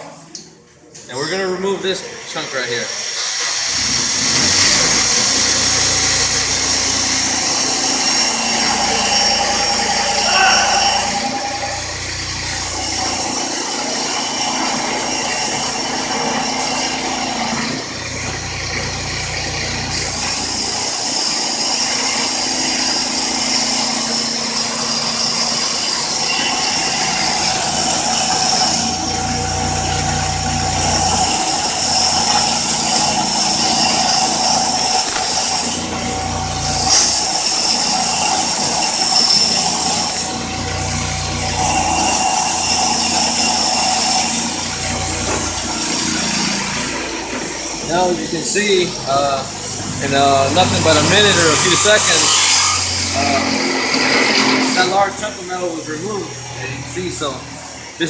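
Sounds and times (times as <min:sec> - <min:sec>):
bench grinder grinding metal: 0:03.2 - 0:55.4
grinder motor humming: 0:03.6 - 0:55.4.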